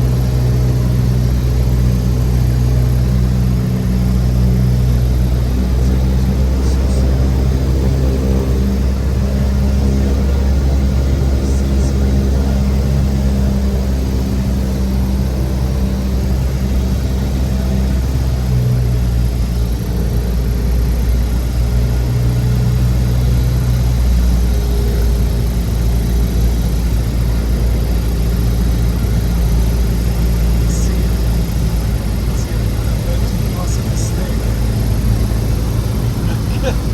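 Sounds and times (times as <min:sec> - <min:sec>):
propeller aircraft engine drone: 0:00.0 - 0:36.9.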